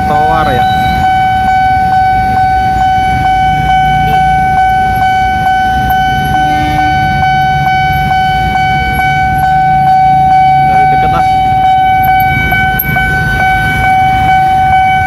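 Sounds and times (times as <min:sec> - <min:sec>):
idling motorcycle and car engines: 0:00.0 - 0:15.0
level crossing alarm tone: 0:00.0 - 0:15.0
regular ticking: 0:00.0 - 0:15.0.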